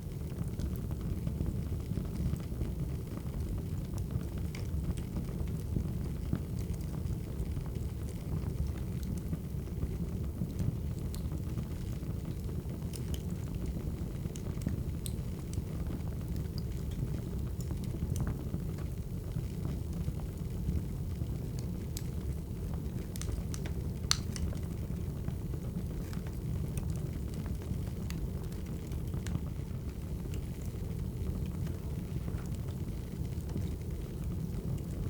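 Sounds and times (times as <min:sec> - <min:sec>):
fire popping: 0:00.0 - 0:35.0
wood fire crackling: 0:00.0 - 0:35.0.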